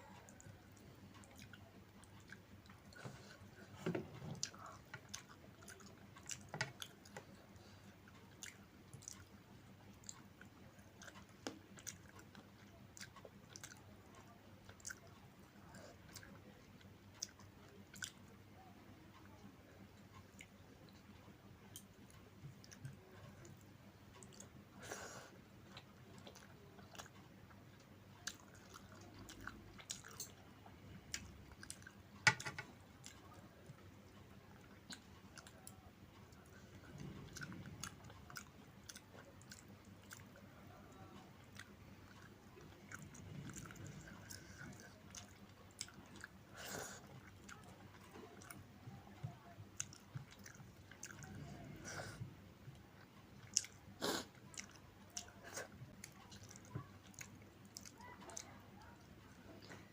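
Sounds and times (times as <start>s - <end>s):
person chewing food: 0.0s - 18.3s, 21.7s - 59.9s.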